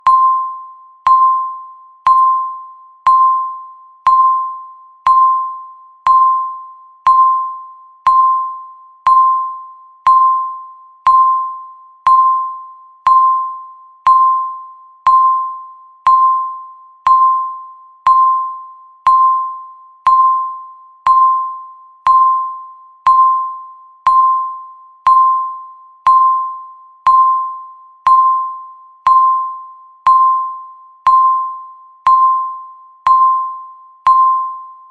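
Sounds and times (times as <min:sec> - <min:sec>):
countdown timer beeping: 0:00.0 - 0:34.9.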